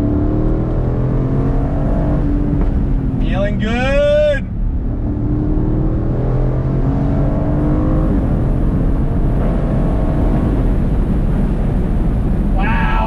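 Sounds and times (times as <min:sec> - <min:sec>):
car engine accelerating: 0:00.0 - 0:12.6
wind and road noise: 0:00.0 - 0:13.0.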